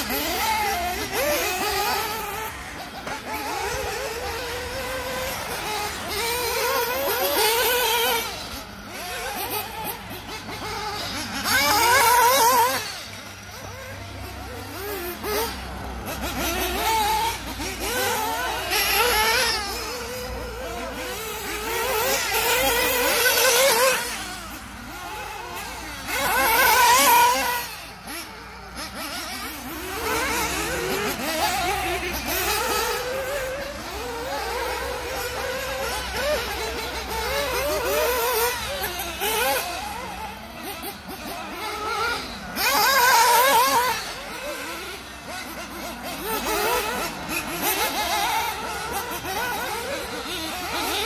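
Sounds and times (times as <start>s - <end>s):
model buggy engine revving: 0.0s - 51.0s.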